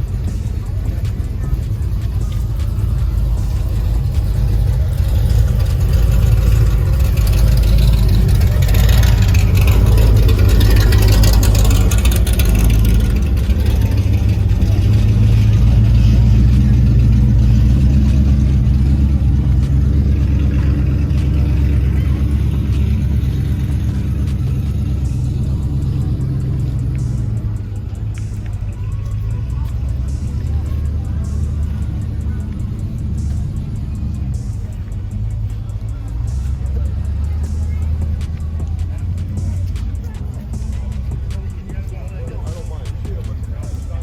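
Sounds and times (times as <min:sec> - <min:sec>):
car engine rumbling: 0:00.0 - 0:44.0.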